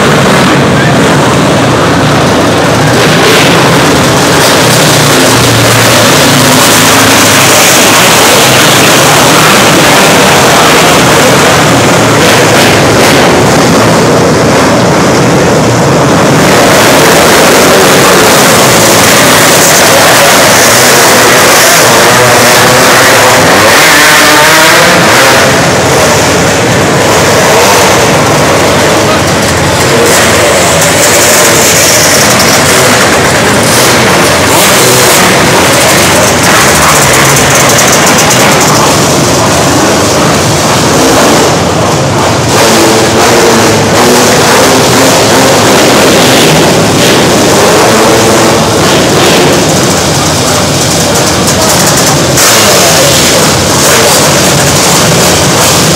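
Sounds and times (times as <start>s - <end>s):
race car engines revving: 0.0s - 55.9s.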